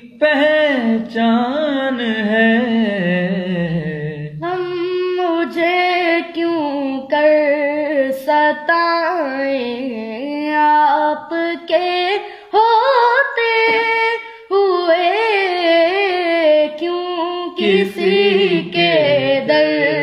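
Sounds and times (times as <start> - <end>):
boy singing: 0.0 - 20.0.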